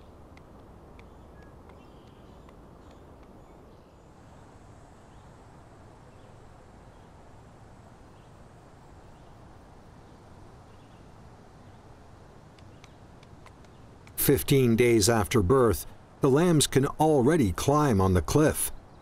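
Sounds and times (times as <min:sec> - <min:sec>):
faint outdoor background noise: 0:00.0 - 0:19.0.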